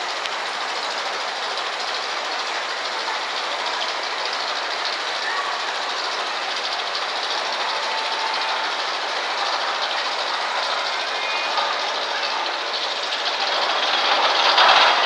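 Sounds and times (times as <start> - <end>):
roller coaster lift hill clatter: 0.0 - 15.0.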